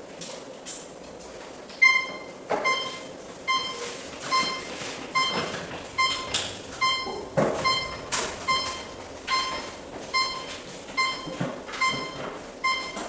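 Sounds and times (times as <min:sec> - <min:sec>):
short electronic beeps: 0:01.8 - 0:13.0.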